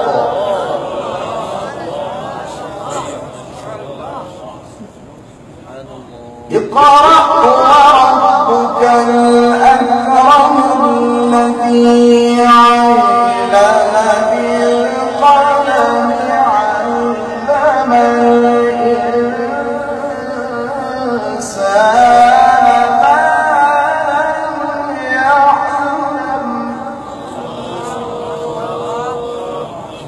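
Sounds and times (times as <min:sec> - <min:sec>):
man reciting melodically: 0:00.0 - 0:04.6, 0:05.7 - 0:30.0.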